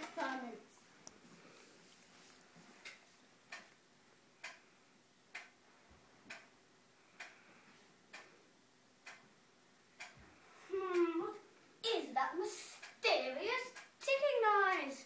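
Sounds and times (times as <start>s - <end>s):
faint ticking: 0.0s - 15.0s.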